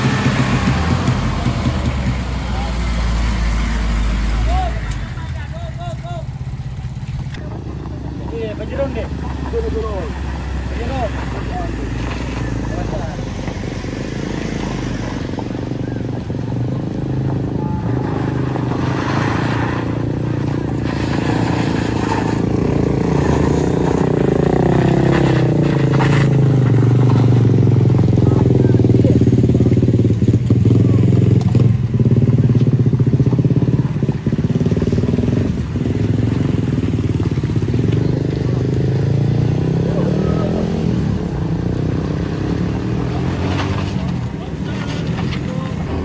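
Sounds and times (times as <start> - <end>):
engines labouring uphill: 0.0 - 46.0.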